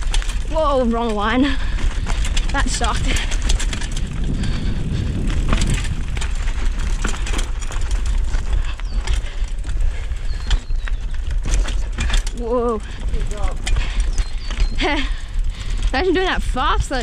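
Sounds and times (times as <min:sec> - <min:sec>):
bike clicks and rattles: 0:00.0 - 0:17.0
low rumble: 0:00.0 - 0:17.0
tyres crunching over stones: 0:00.0 - 0:17.0.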